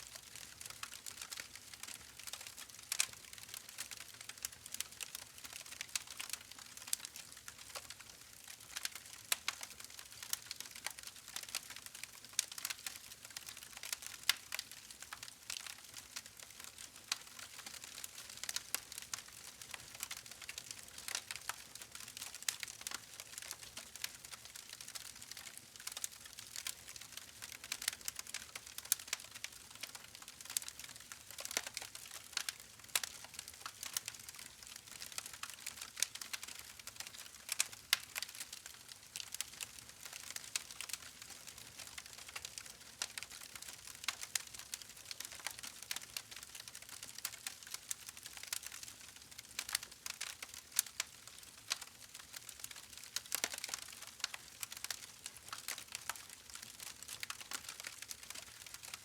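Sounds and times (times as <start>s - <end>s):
campfire crackling and popping: 0.2s - 59.0s.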